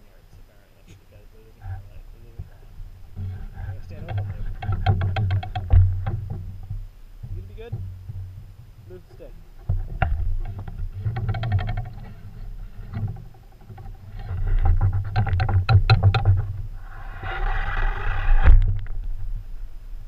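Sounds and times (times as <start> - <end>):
low rumble: 1.7 - 20.0.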